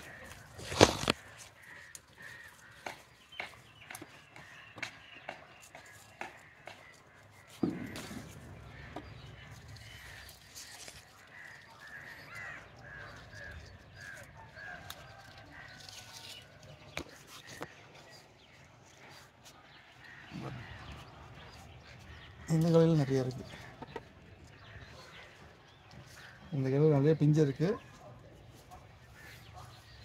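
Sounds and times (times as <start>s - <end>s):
branches and leaves rustling: 0.0s - 30.0s.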